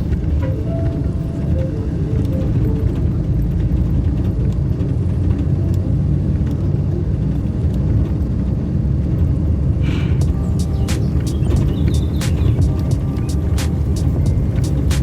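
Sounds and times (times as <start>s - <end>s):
car travelling on road: 0.0s - 15.0s.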